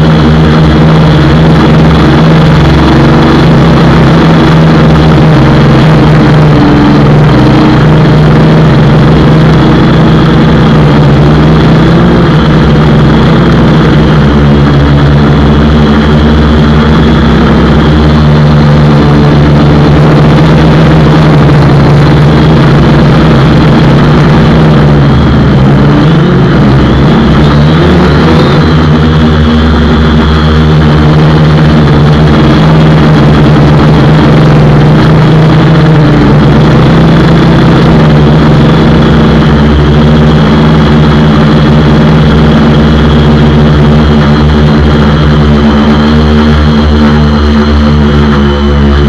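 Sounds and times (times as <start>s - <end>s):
drone motors and propellers buzzing: 0.0s - 49.0s.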